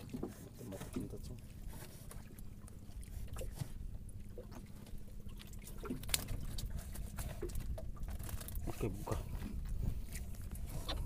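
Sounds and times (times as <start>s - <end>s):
boat low rumble: 0.0s - 11.0s.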